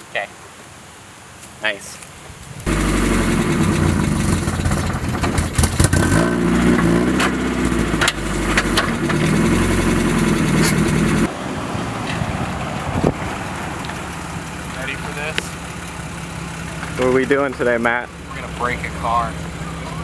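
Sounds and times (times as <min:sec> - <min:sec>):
car engine revving: 0:02.7 - 0:11.3, 0:12.5 - 0:20.0.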